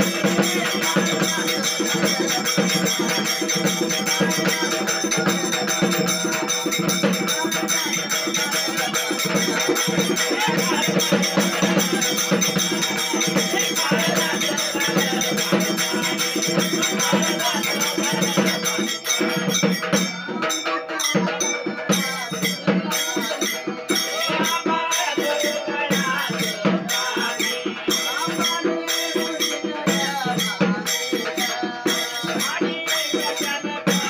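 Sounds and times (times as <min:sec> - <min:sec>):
group singing devotional song: 0:00.0 - 0:34.0
hand drum: 0:00.0 - 0:34.0
rattling percussion: 0:00.0 - 0:34.0.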